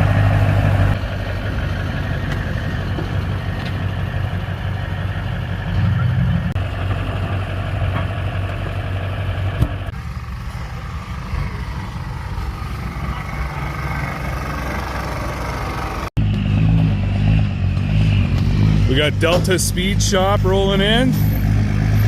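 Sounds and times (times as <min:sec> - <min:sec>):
diesel engine idling: 0:00.0 - 0:16.8, 0:17.5 - 0:22.0.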